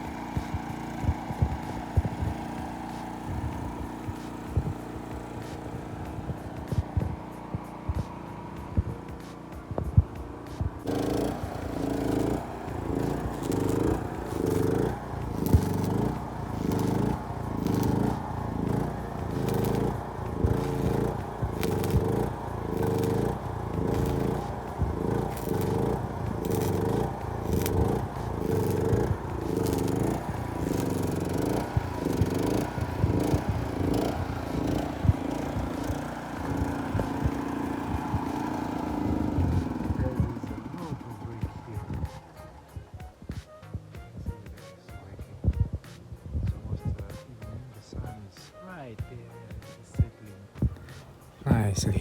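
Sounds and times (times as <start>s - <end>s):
music with steady beat and bass: 0.0s - 52.0s.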